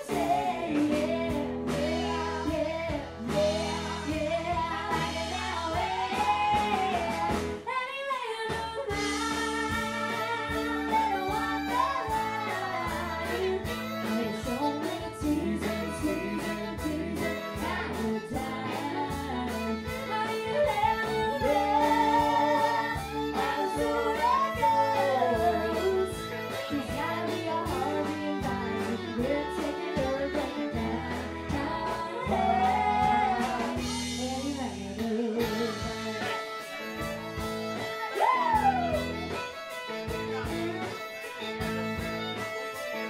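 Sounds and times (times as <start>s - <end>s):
woman singing country song: 0.0s - 41.0s
amplified band music: 0.0s - 43.0s.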